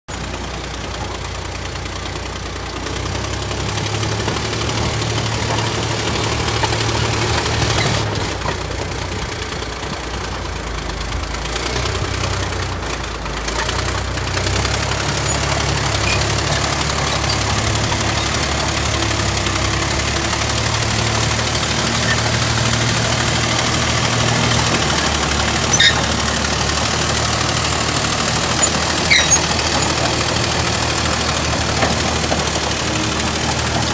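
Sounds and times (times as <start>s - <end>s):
bulldozer diesel engine running: 0.1s - 33.9s.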